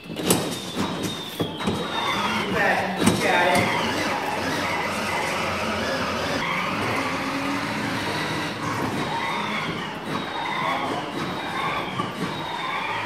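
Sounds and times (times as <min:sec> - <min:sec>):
short falling squeals: 0:00.0 - 0:13.0
toy truck motor drone: 0:00.0 - 0:13.0.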